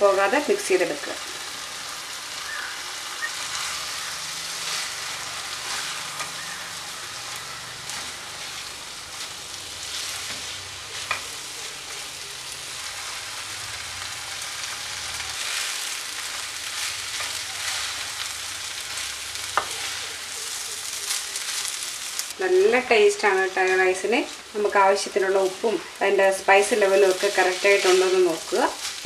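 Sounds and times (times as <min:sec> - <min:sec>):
rice sizzling in pan: 0:00.0 - 0:29.0.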